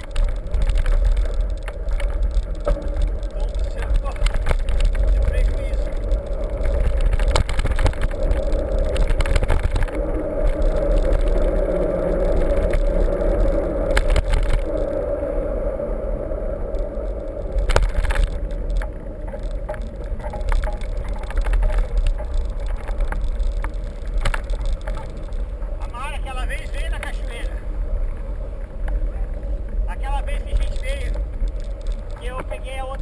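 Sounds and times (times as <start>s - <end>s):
bike clicks and rattles: 0.0s - 15.1s, 16.6s - 33.0s
wind rumble on microphone: 0.0s - 33.0s.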